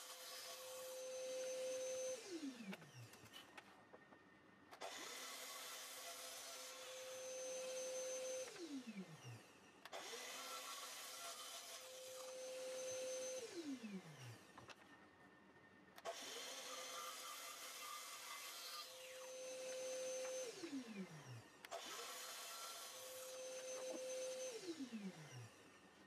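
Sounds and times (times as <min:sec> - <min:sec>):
mitre saw cutting wood: 0:00.0 - 0:03.3, 0:04.8 - 0:14.4, 0:16.0 - 0:25.8.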